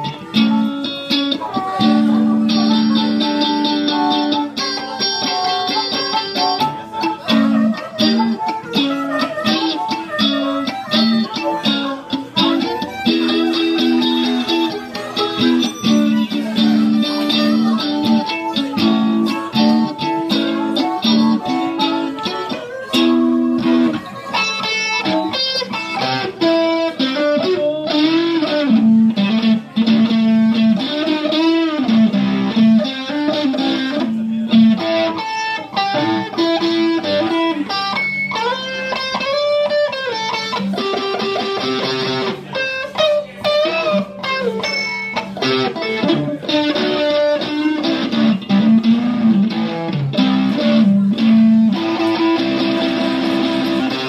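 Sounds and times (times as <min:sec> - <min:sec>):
electric guitar: 0:00.0 - 0:54.0
harmonica: 0:00.0 - 0:54.0.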